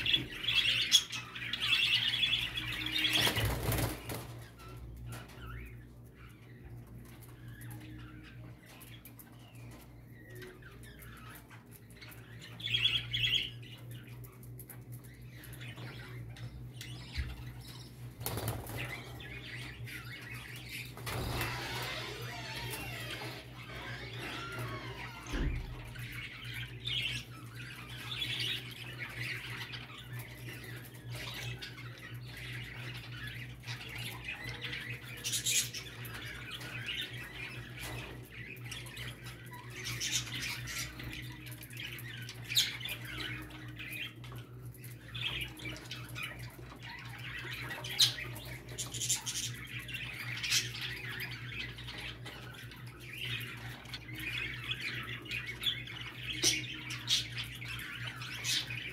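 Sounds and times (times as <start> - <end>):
budgerigars chattering and warbling: 0.0 - 58.9.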